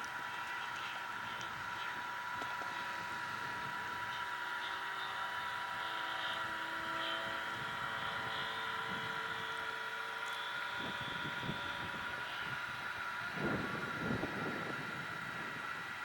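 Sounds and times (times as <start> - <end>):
model airplane motor droning: 0.0 - 16.0.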